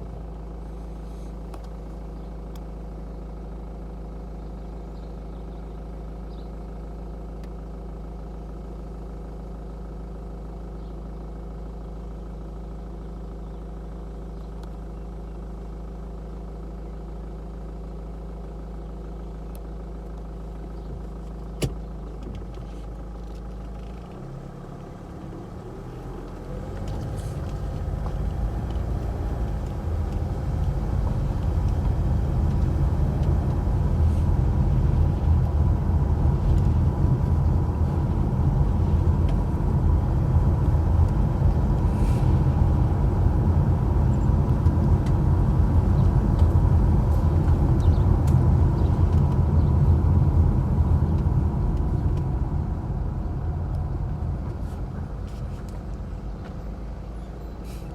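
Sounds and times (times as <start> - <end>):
vehicle engine humming: 0.0 - 57.9.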